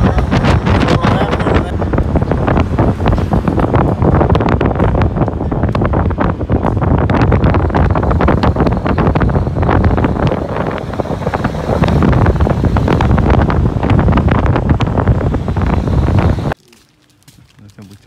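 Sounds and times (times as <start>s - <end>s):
wind buffeting microphone: 0.0s - 16.6s
truck road noise: 0.0s - 18.0s.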